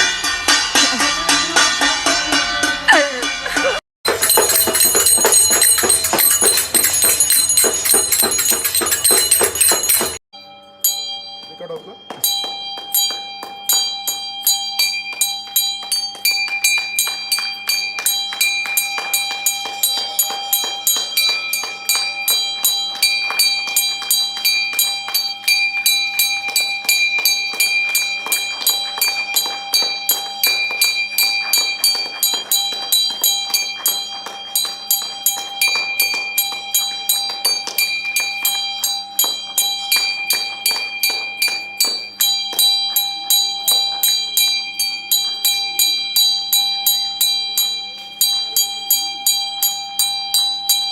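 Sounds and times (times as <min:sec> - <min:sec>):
metal bell ringing: 0:04.1 - 0:50.9.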